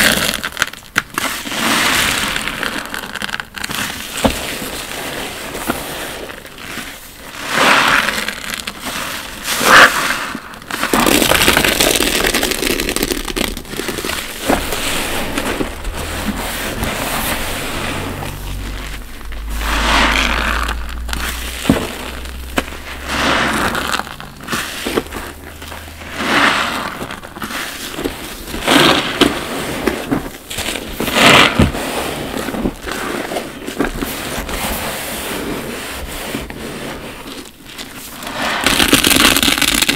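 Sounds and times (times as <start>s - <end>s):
sponge squelching in suds: 1.2s - 38.7s.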